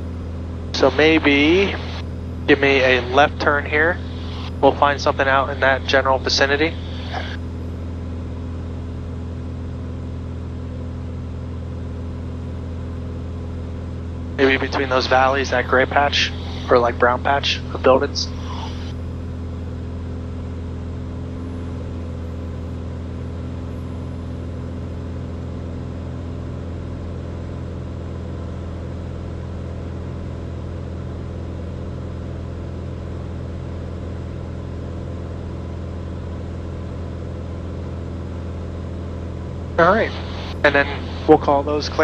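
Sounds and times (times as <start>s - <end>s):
aircraft engine droning in cabin: 0.0s - 42.0s.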